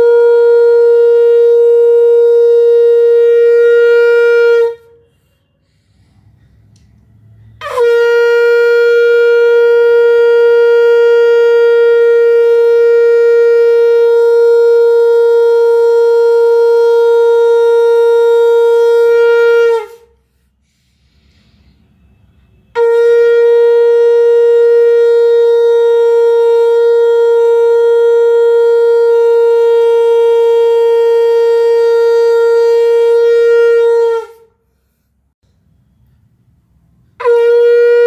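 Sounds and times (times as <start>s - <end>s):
conch shell blasts: 0.0s - 5.8s, 7.4s - 20.1s, 22.0s - 34.6s, 37.1s - 38.0s.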